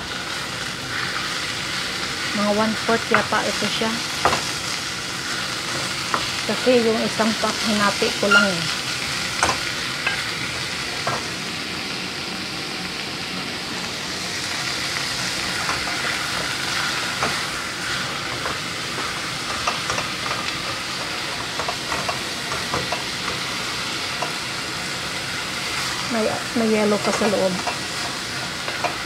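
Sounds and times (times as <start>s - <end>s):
meat sizzling in a pot: 0.0s - 29.0s.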